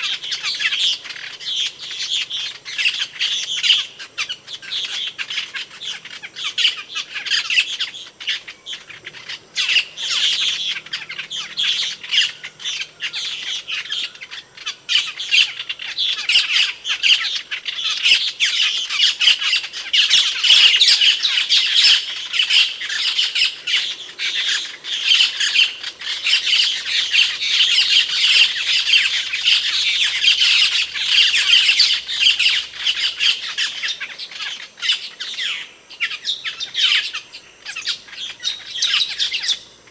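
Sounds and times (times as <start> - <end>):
starling calling: 0.0 - 39.9.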